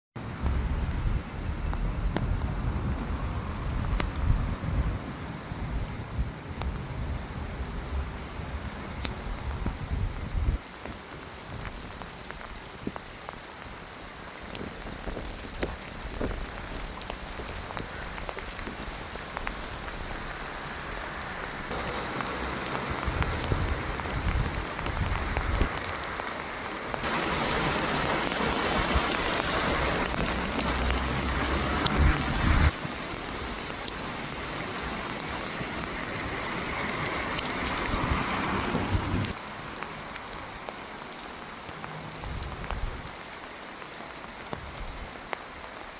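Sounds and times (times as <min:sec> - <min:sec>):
rain falling: 0:00.2 - 0:45.9
raindrop ticks: 0:00.4 - 0:03.2, 0:03.8 - 0:04.9, 0:08.8 - 0:45.9.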